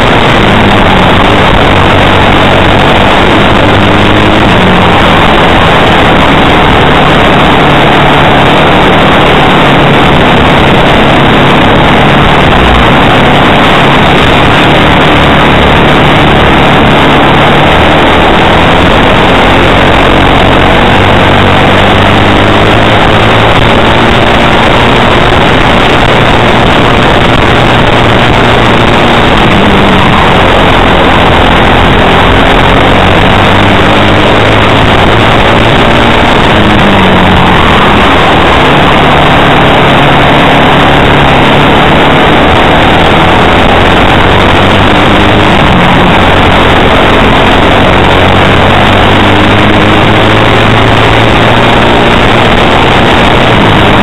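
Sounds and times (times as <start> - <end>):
kart engine at racing revs: 0.0 - 54.0.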